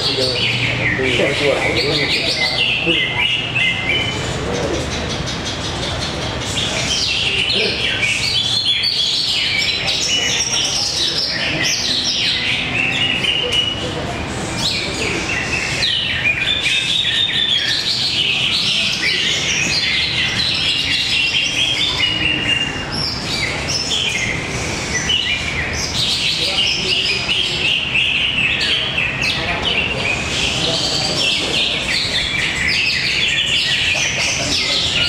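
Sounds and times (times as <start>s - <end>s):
birds singing: 0.0s - 35.0s.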